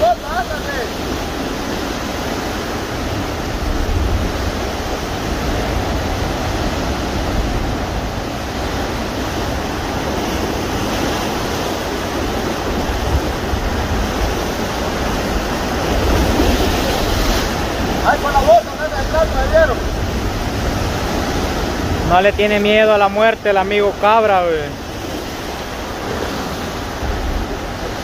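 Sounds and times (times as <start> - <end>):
waves breaking against rocks: 0.0 - 28.0.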